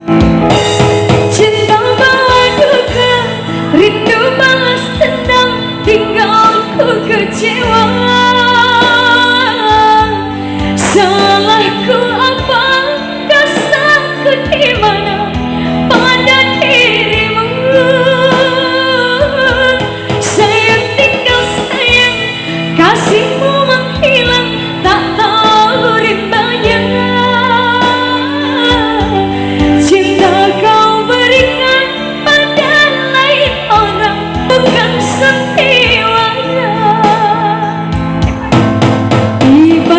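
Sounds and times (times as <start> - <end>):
instrumental backing: 0.0 - 39.9
woman singing pop song: 1.2 - 38.7, 39.4 - 39.9.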